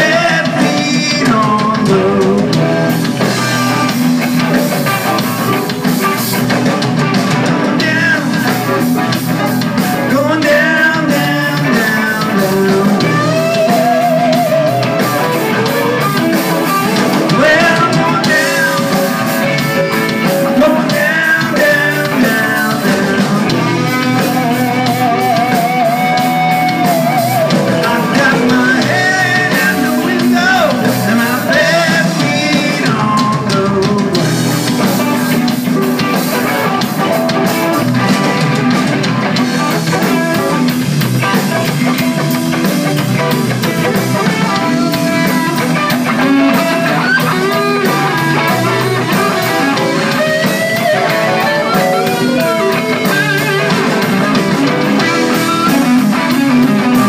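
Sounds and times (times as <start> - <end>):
man singing: 0.0 - 6.4, 7.1 - 57.0
rock band playing: 0.0 - 57.0.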